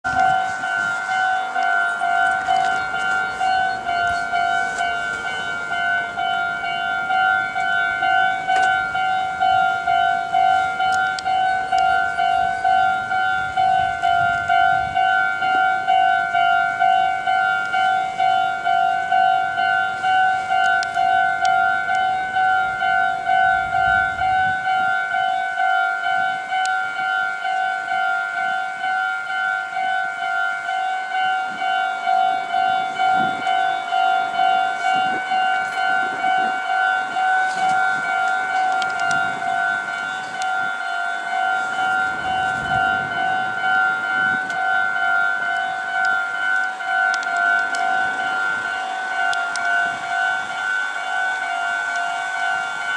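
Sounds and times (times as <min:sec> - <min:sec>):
level crossing warning bell: 0:00.0 - 0:52.9.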